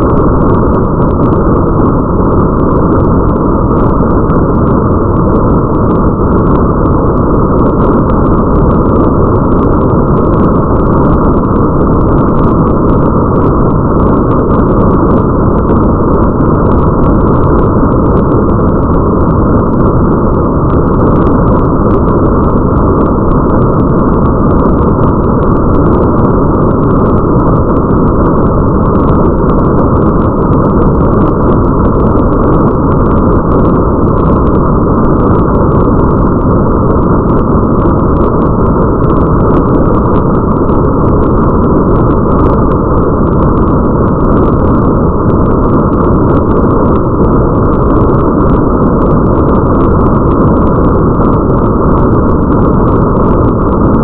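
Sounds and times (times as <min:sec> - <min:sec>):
muffled rain: 0:00.0 - 0:54.0.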